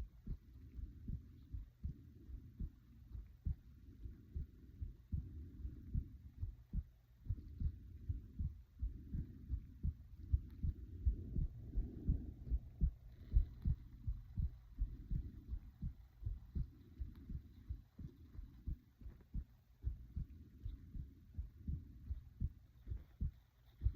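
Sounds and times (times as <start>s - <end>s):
heartbeat thumps: 0.0s - 23.9s
soft breathing: 0.0s - 23.9s.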